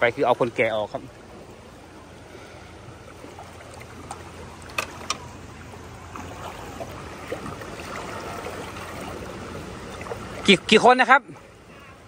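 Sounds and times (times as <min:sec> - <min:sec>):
rushing floodwater: 0:00.0 - 0:12.0
small boat motor running: 0:00.0 - 0:12.0.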